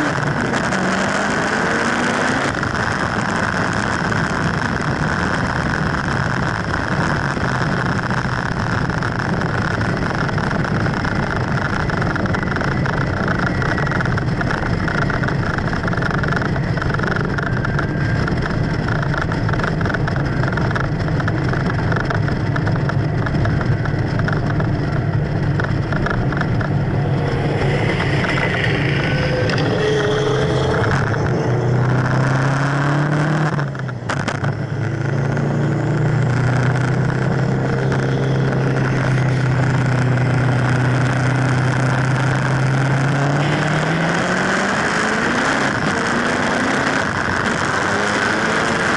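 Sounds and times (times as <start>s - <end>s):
road and wind noise: 0.0s - 48.9s
vehicle engine drone: 0.0s - 48.9s.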